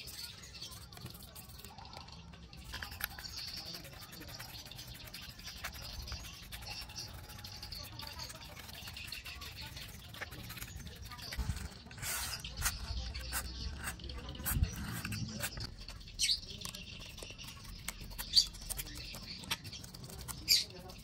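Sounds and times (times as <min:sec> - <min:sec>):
paintbrush scrubbing circuit board: 0:00.0 - 0:02.0, 0:02.6 - 0:21.0.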